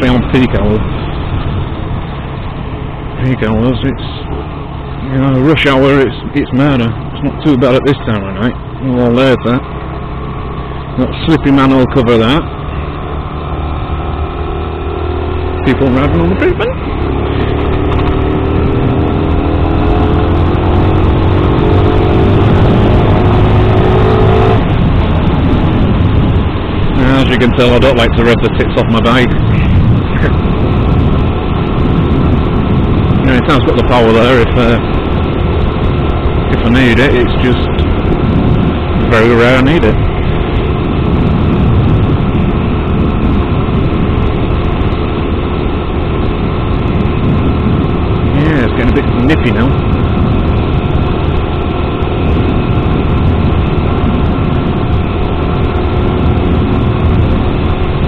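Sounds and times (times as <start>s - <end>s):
motorcycle engine accelerating: 0.0s - 58.0s
wind rumble on microphone: 0.0s - 58.0s.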